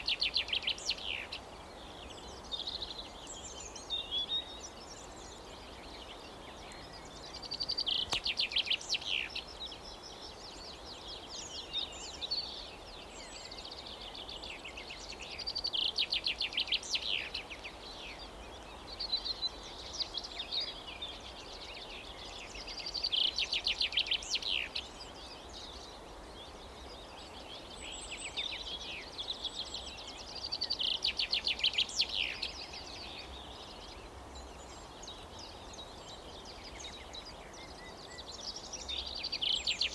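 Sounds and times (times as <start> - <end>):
low outdoor background noise: 0.0 - 39.9.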